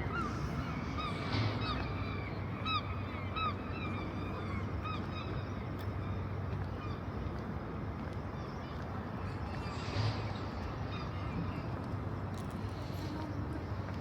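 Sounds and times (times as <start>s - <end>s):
city background noise: 0.0s - 14.0s.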